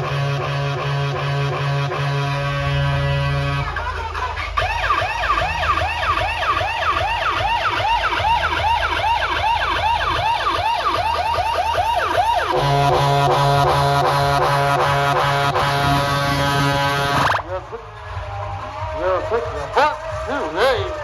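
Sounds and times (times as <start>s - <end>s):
music with heavy bass: 0.0s - 21.0s
electronic siren wail: 0.1s - 21.0s.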